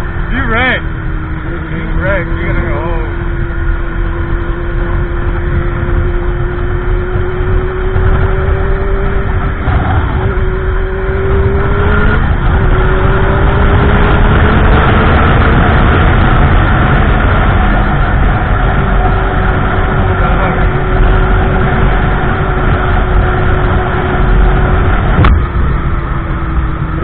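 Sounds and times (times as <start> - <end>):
motorcycle engine accelerating: 0.0 - 27.0
wind noise: 3.1 - 27.0.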